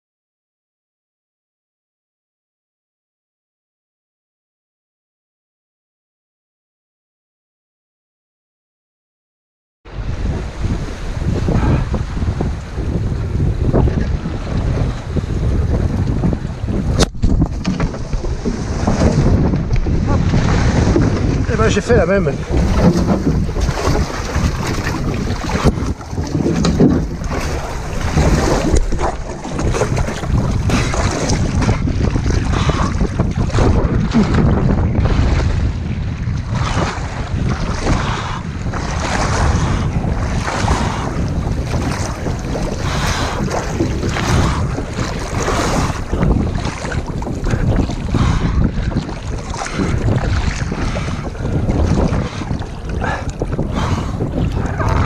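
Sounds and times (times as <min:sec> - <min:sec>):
waves splashing against hull: 0:09.9 - 0:55.0
wind buffeting microphone: 0:09.9 - 0:55.0.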